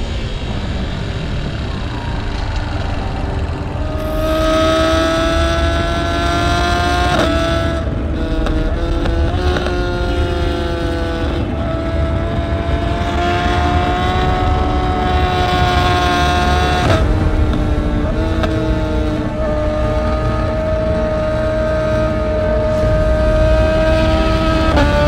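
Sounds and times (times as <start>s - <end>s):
motorcycle engine at high revs: 0.0s - 25.0s
wind rumble: 0.0s - 25.0s.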